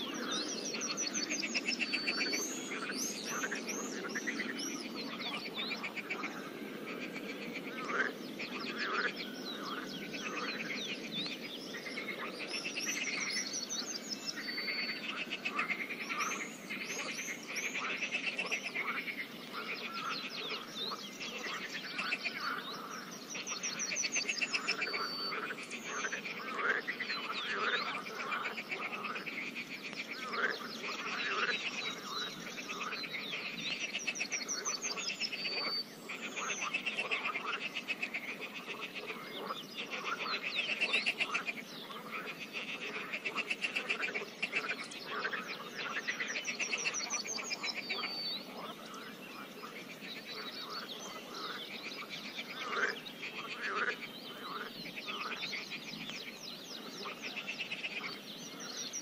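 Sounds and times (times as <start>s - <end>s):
frogs croaking in chorus: 0.0s - 59.0s.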